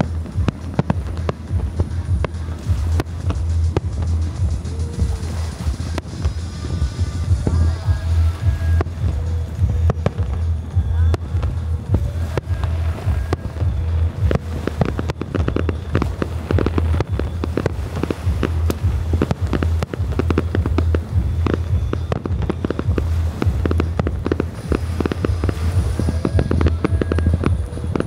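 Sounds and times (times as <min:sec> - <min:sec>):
deep rumble: 0:00.0 - 0:28.0
fireworks crackling and banging: 0:00.0 - 0:28.0.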